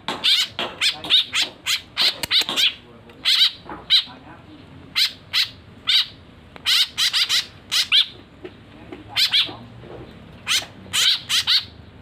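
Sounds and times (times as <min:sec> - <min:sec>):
young birds begging calls: 0:00.1 - 0:04.2, 0:04.8 - 0:12.0.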